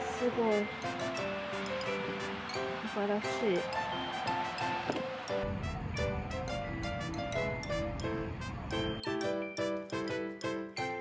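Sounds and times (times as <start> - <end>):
light cheerful background music: 0.0 - 11.0.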